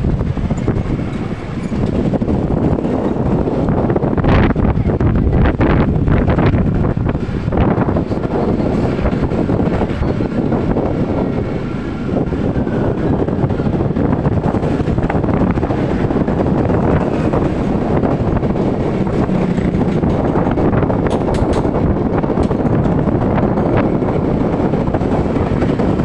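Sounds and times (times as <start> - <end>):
road noise: 0.0 - 26.0
scooter engine: 0.0 - 26.0
wind rushing over microphone: 0.0 - 26.0.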